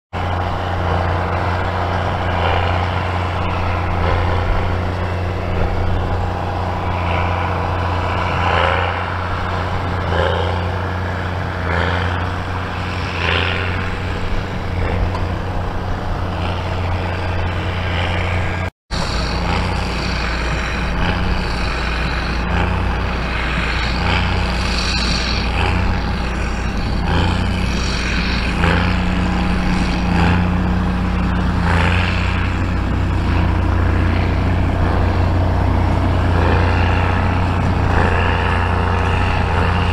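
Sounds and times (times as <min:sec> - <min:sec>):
diesel tractor engine under load: 0:00.1 - 0:39.9.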